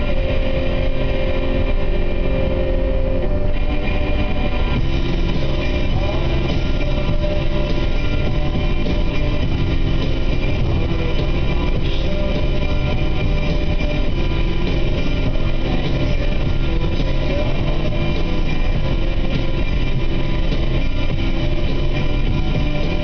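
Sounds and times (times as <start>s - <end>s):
car engine and road noise: 0.0s - 23.0s
guitar music: 0.0s - 23.0s.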